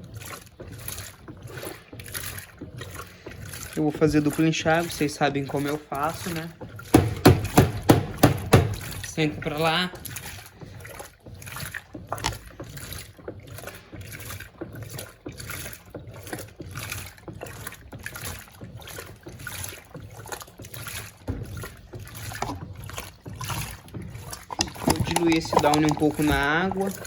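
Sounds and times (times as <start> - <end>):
washing machine water sloshing: 0.0 - 27.0.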